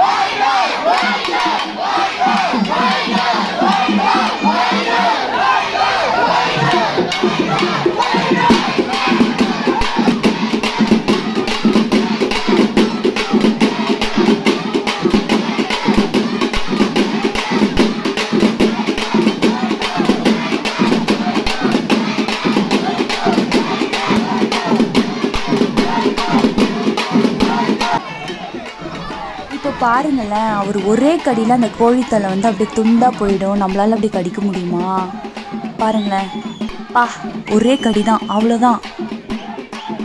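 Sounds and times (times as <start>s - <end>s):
crowd voices: 0.0s - 40.0s
drums beaten in fast rhythm: 0.0s - 40.0s.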